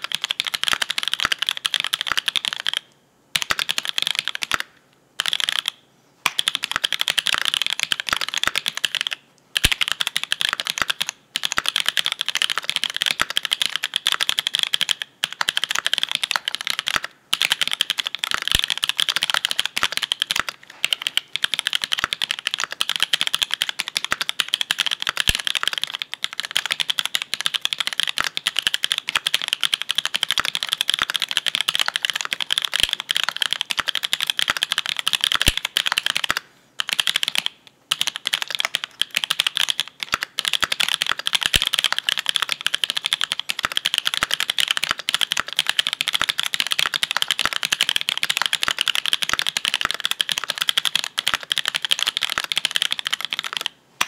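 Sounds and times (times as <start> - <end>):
mechanical keyboard typing: 0.0 - 2.8, 3.4 - 53.7.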